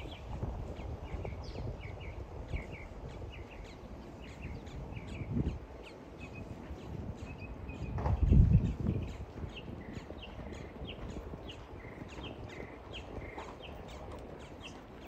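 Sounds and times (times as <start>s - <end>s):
horse hooves on sand: 0.0s - 15.0s
small birds chirping: 0.0s - 15.0s.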